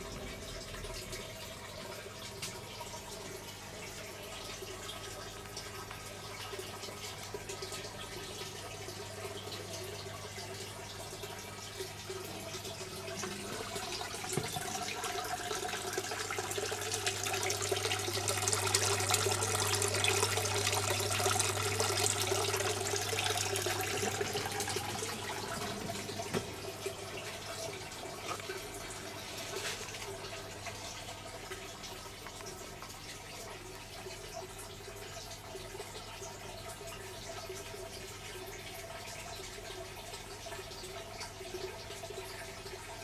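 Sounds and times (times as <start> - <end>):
water pouring and splashing: 0.0 - 36.4
submersible pump hum: 0.0 - 43.0.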